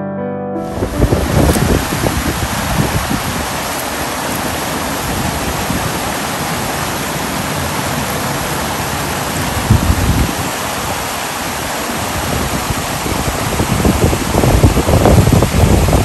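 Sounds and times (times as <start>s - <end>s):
river water rushing over rocks: 0.8s - 16.0s.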